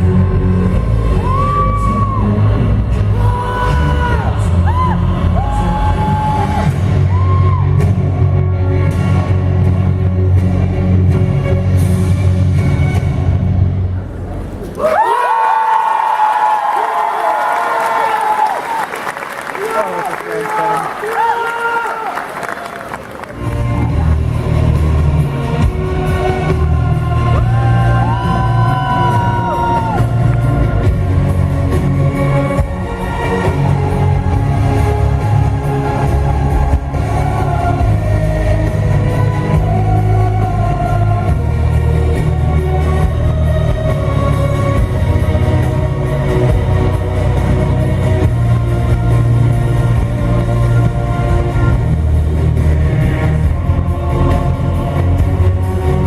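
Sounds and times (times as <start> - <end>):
loud music with heavy bass: 0.0 - 13.9, 23.4 - 56.0.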